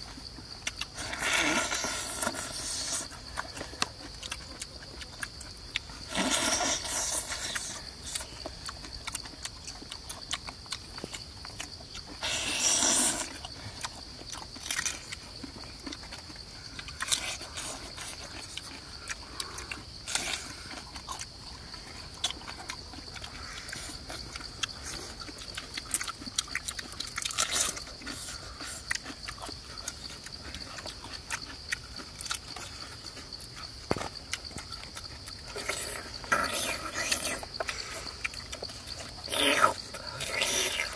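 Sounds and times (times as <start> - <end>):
high insect drone: 0.0 - 40.9
person chewing and crunching: 0.0 - 40.9.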